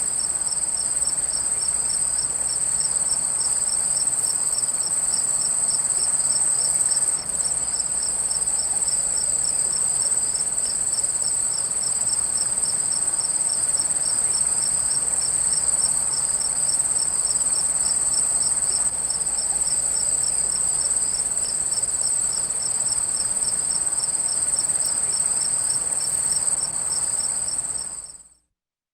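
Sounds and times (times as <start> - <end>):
crickets chirping: 0.0 - 28.4.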